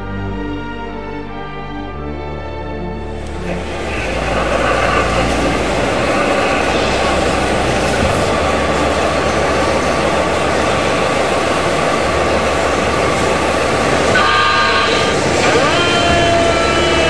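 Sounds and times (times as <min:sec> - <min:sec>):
rushing engine noise: 0:02.7 - 0:17.0
air horn blast: 0:02.8 - 0:17.0.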